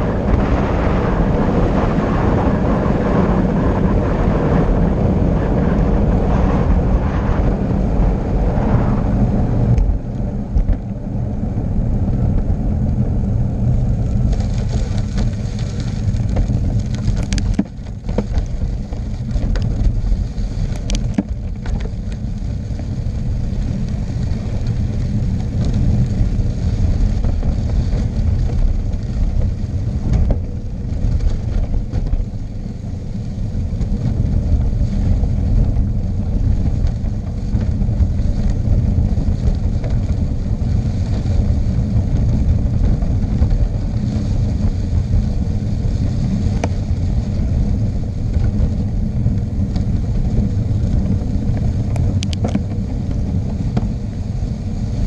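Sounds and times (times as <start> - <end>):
road rumble: 0.0 - 55.0
wind buffeting on microphone: 0.0 - 55.0.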